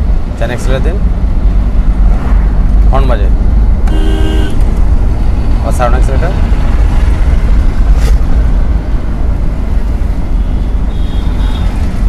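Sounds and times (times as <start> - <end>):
car engine rumble while driving: 0.0 - 12.0.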